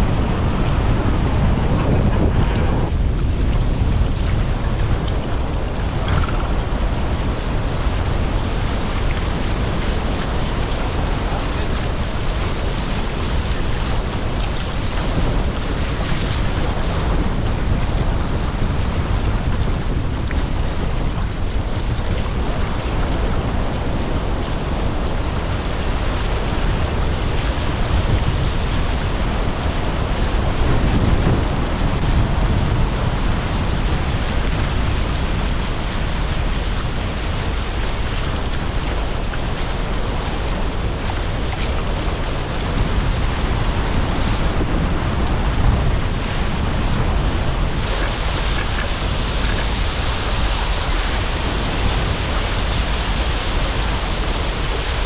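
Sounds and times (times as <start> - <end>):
water rushing past hulls: 0.0 - 55.0
wind buffeting microphone: 0.0 - 55.0.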